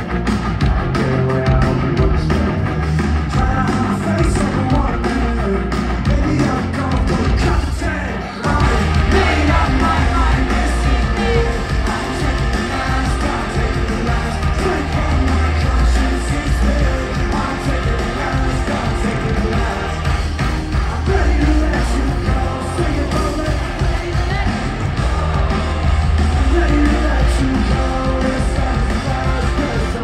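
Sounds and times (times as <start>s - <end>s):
live rock music: 0.0s - 30.0s
person singing: 3.3s - 30.0s.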